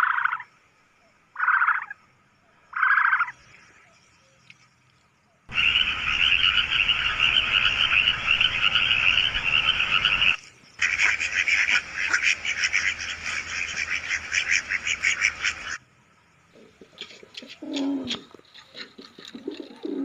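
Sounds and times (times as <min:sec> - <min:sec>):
frogs croaking: 0:00.0 - 0:20.0.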